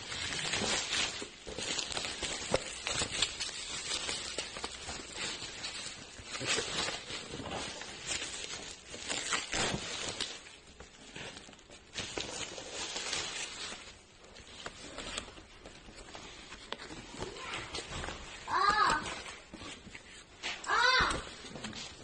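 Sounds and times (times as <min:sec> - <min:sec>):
rustling and scraping: 0:00.0 - 0:22.0.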